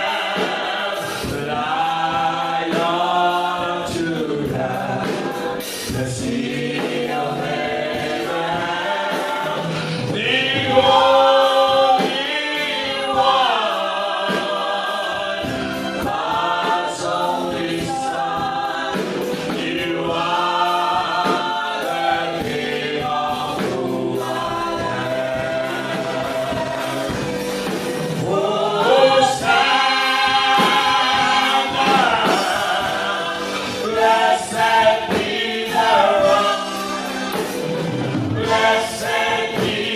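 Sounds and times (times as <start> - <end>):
gospel choir singing: 0.0 - 39.9
music: 0.0 - 39.9.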